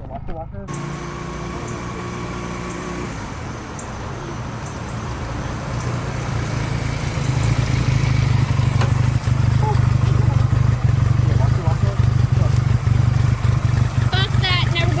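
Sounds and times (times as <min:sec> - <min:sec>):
road and wind noise: 0:00.0 - 0:15.0
motorcycle engine running: 0:00.7 - 0:03.5, 0:05.6 - 0:15.0.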